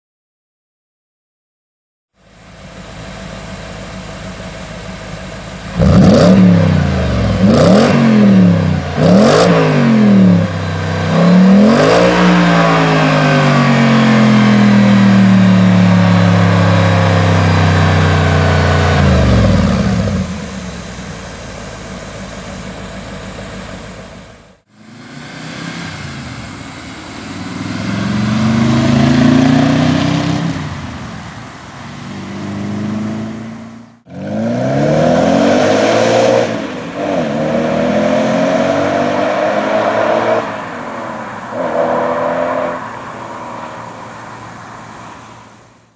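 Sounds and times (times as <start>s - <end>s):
car engine revving: 2.5s - 45.6s.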